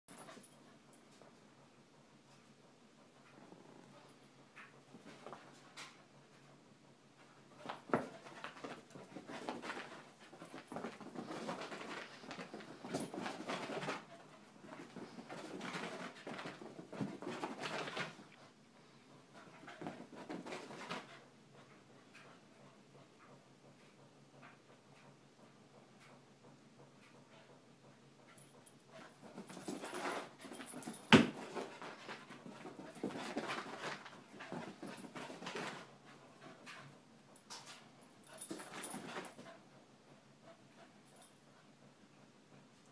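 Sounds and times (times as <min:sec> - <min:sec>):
dogs playing and scuffling: 0:00.1 - 0:42.9.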